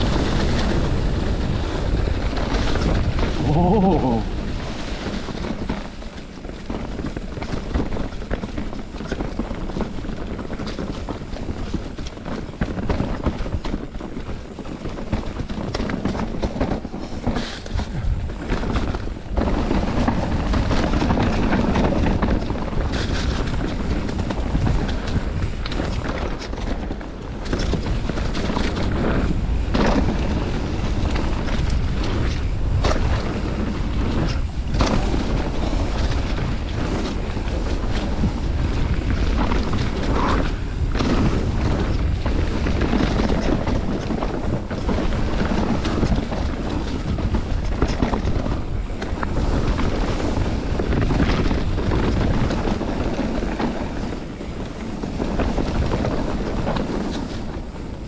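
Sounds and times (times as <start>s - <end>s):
bike tyres rattling over dirt: 0.0s - 58.0s
wind buffeting microphone: 0.0s - 58.0s.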